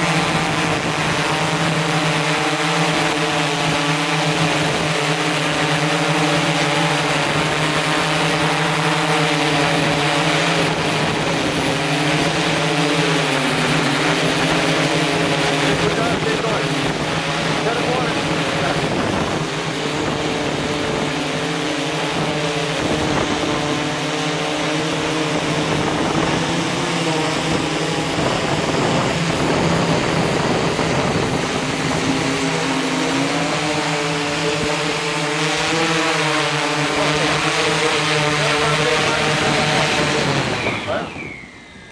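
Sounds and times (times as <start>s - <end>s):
drone motors humming: 0.0s - 41.9s.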